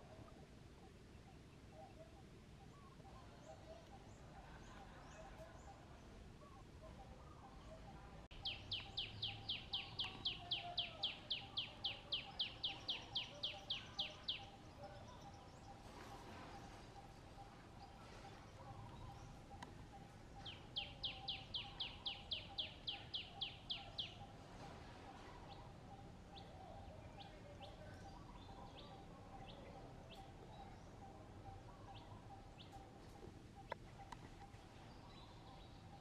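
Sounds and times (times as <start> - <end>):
bird chirps: 0.0 - 36.0
faint steady hum: 0.0 - 36.0.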